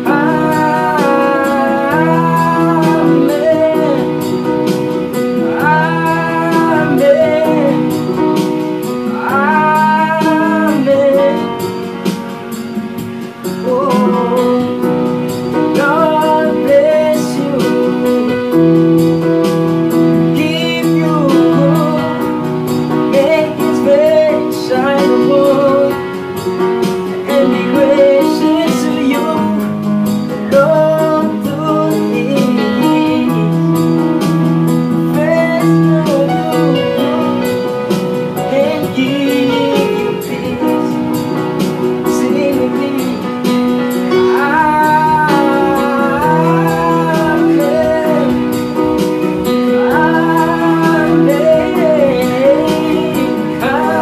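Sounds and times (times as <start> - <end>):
slow electronic keyboard music: 0.0 - 54.0.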